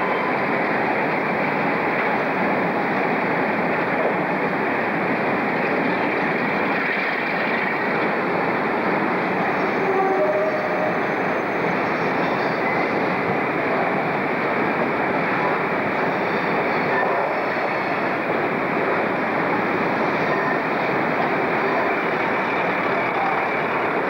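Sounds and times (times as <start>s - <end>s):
diesel locomotive engine: 0.0s - 24.0s
wheel-on-rail noise: 0.0s - 24.0s.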